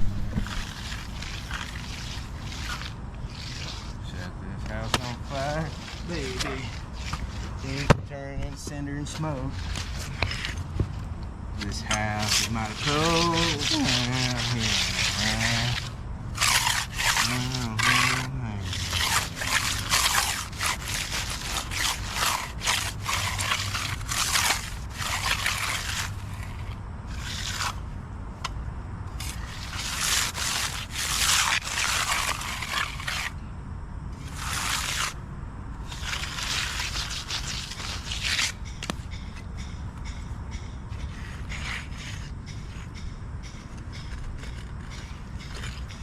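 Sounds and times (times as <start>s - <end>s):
tools scraping concrete: 0.0s - 10.9s, 11.6s - 27.8s, 29.1s - 33.4s, 34.2s - 35.2s, 35.8s - 46.0s
steady low hum: 0.0s - 46.0s.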